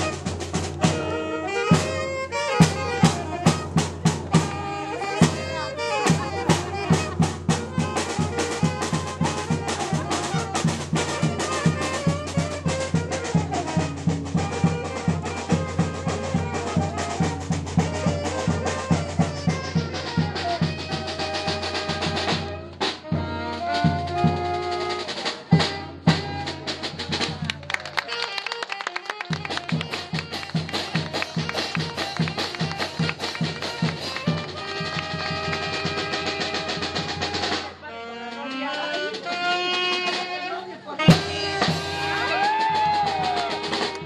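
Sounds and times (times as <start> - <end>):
bass drum and snare beat: 0.0 - 27.7, 29.3 - 37.8, 41.0 - 44.0
street band playing dance tune: 0.0 - 44.0.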